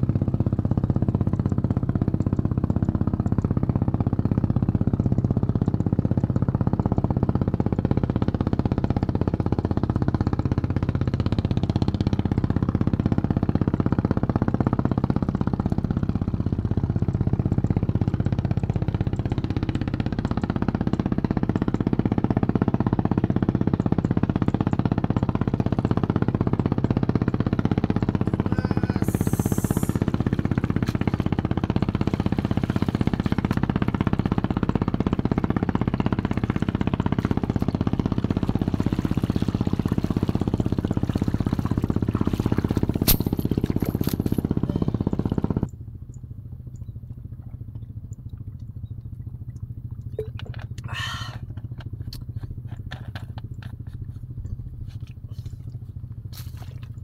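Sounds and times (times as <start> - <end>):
low engine drone: 0.0 - 57.0.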